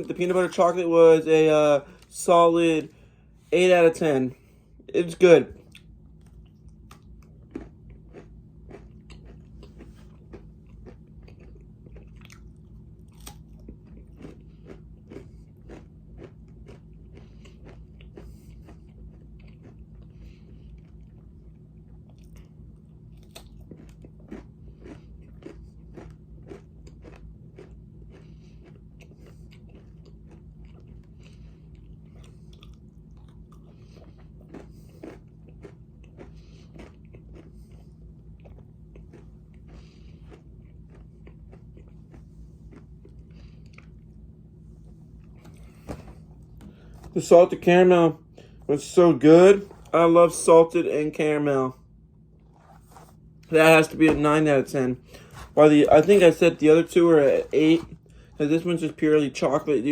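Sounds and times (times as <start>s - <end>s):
person chewing crunchy granola bar: 3.7s - 59.8s.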